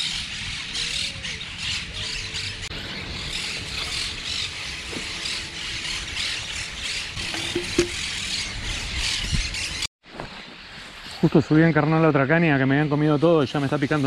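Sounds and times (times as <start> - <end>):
birds calling and chattering: 0.0 - 14.0.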